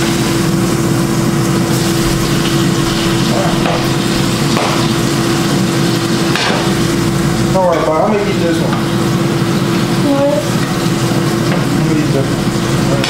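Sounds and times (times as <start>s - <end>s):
constant hum: 0.0s - 13.0s
food sizzling in pan: 0.0s - 13.0s.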